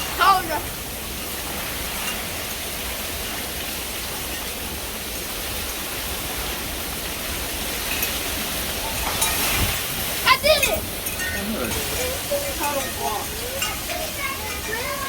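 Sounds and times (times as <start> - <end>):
heavy rain and wind rushing: 0.0 - 15.0.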